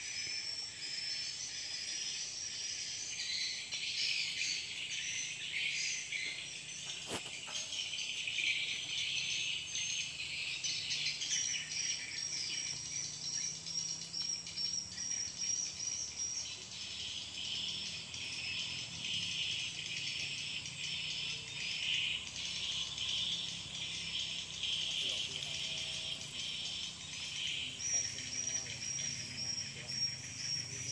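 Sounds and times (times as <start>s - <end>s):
insects chirring: 0.0s - 30.9s.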